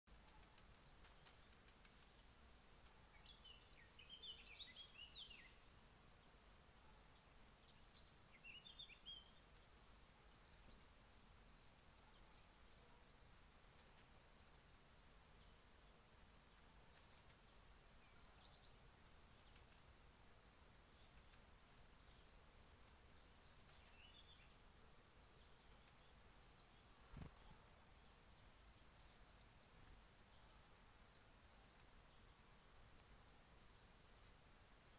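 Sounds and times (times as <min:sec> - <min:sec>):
birds twittering: 0:00.1 - 0:16.2, 0:16.9 - 0:20.1, 0:20.8 - 0:32.8
small birds chirping: 0:00.1 - 0:34.9.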